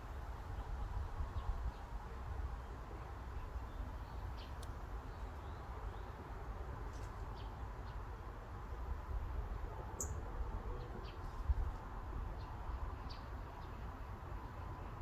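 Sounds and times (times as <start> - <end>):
forest wind with low rumble: 0.0 - 15.0.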